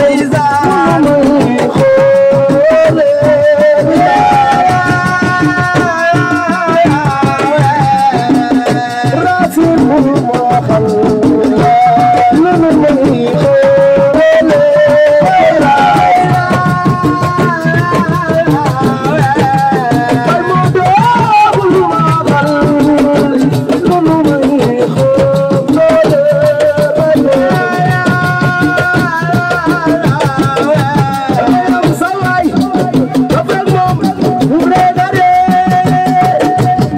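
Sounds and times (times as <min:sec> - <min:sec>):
fast drum and percussion beats: 0:00.0 - 0:36.9
person singing: 0:00.0 - 0:36.9.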